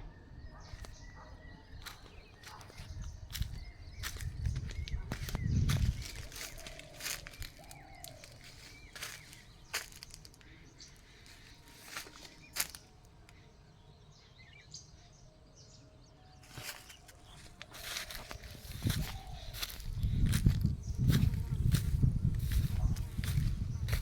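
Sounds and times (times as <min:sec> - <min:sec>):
faint bird calls and chirps: 0:00.0 - 0:24.0.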